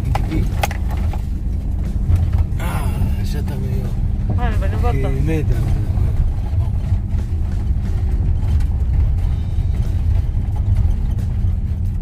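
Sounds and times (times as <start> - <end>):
road noise: 0.0 - 12.0
van engine rumble: 0.0 - 12.0.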